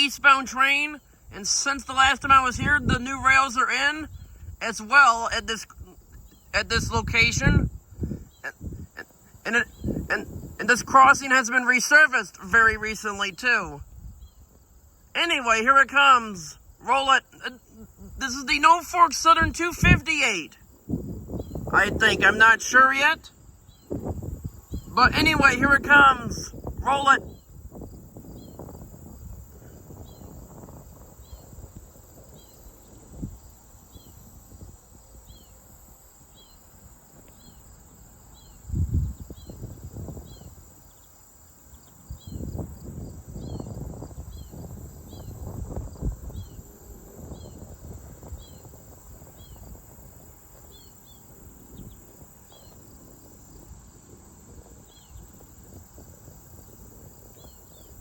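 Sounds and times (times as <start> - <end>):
insect chirps: 0.0 - 58.0
insects buzzing: 0.0 - 58.0
wind gusts on microphone: 0.0 - 58.0.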